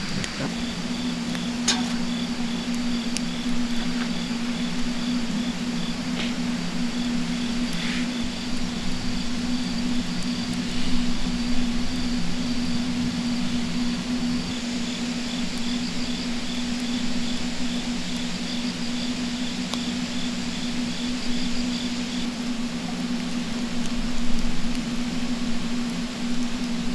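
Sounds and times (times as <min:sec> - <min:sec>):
constant low hum: 0:00.0 - 0:26.9
crickets chirping: 0:00.0 - 0:26.9.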